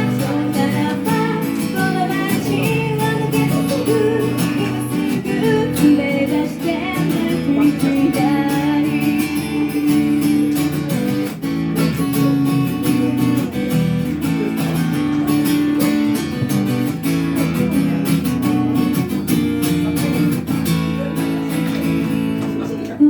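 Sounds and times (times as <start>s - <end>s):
strummed acoustic guitar chords: 0.0s - 23.0s.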